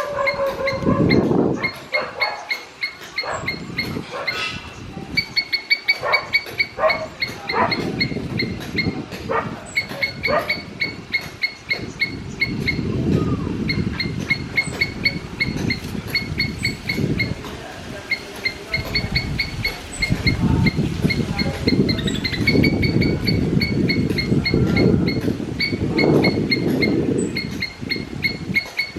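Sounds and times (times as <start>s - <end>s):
squirrel chirping: 0.0s - 28.9s.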